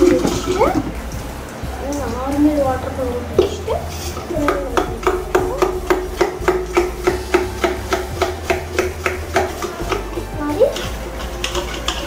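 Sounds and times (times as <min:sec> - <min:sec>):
brush scrubbing metal bottle: 0:01.9 - 0:12.0.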